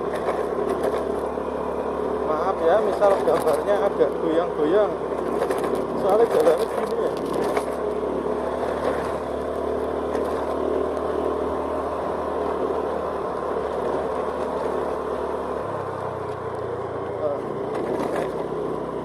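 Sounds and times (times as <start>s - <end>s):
clatter on bumpy road: 0.0s - 1.4s, 2.3s - 11.2s, 12.4s - 19.0s
road noise: 0.0s - 19.0s
vehicle engine running: 0.0s - 19.0s.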